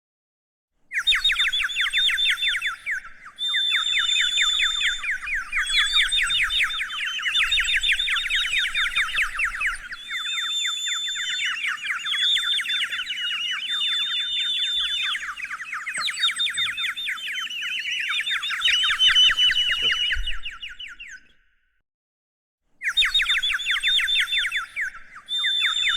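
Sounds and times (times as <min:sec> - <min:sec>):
songbirds trilling: 0:00.9 - 0:21.4, 0:22.8 - 0:25.9
held whistled bird note: 0:00.9 - 0:21.6, 0:22.8 - 0:25.9.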